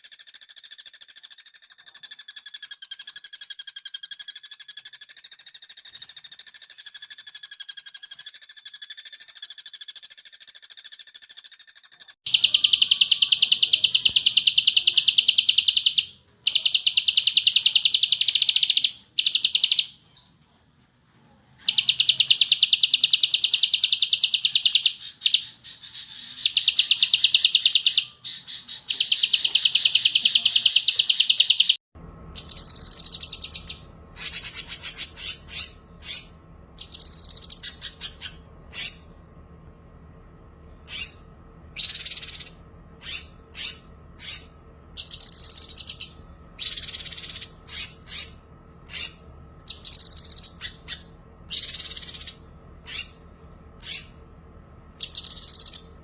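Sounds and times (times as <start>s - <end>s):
songbird buzzy trills: 0.0s - 20.4s, 21.4s - 56.0s.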